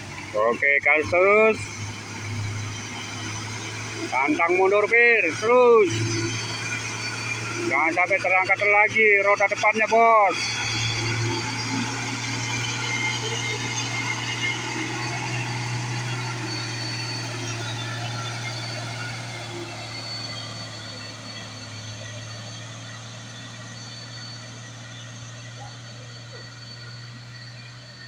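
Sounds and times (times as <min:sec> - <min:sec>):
truck diesel engine drone: 0:00.0 - 0:28.0.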